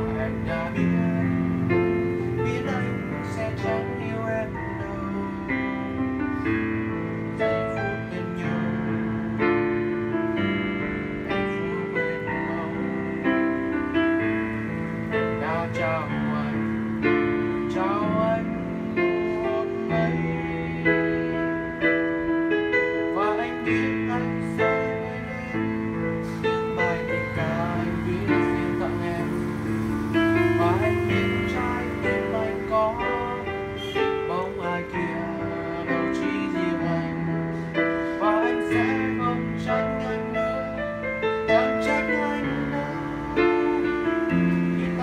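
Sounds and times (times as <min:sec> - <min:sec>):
piano playing slow ballad: 0:00.0 - 0:45.0.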